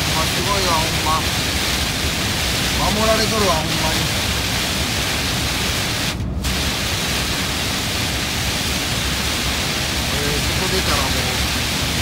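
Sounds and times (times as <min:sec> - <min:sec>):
rain on truck cab: 0:00.0 - 0:12.0
tyres on wet road: 0:00.0 - 0:12.0.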